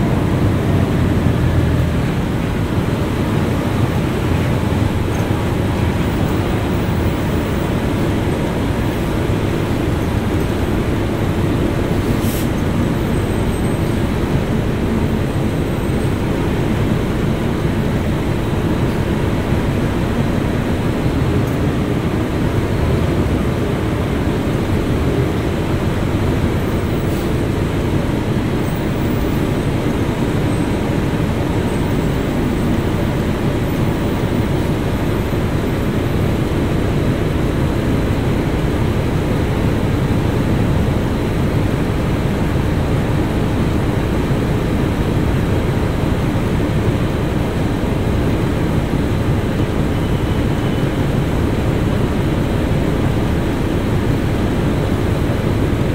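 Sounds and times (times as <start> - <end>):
bus engine drone: 0.0 - 55.9
road noise: 0.0 - 55.9.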